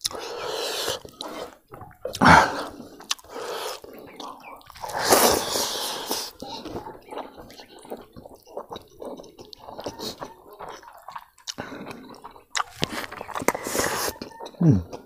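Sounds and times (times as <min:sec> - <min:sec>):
wet chewing and lip smacking: 0:00.0 - 0:15.0.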